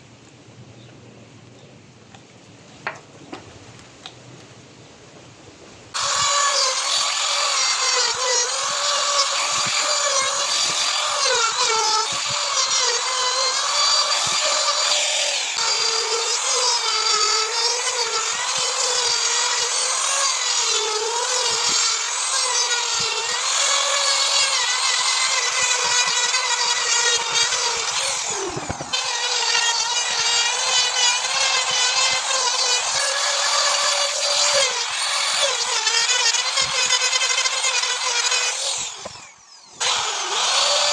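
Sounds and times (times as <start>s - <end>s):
power tool cutting wood: 6.0s - 40.9s.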